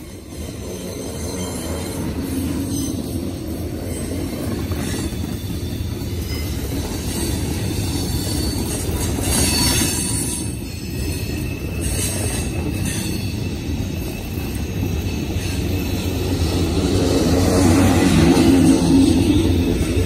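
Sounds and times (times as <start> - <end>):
high-pitched wheel squeal: 0.0 - 20.0
train wheels rumbling on track: 0.0 - 20.0.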